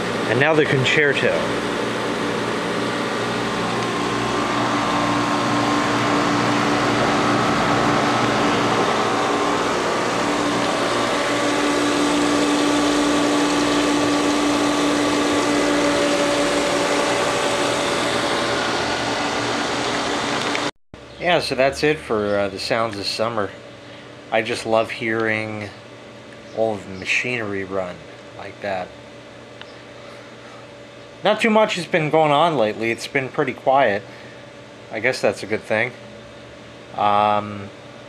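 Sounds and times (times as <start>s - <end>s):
pool pump motor hum: 0.0s - 38.0s.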